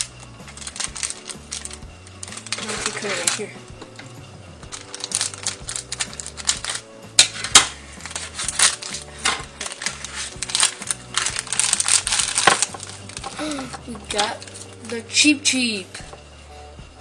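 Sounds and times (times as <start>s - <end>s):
scissors snipping plastic: 0.0s - 4.0s, 4.7s - 15.0s
plastic packaging crinkling: 0.0s - 15.0s.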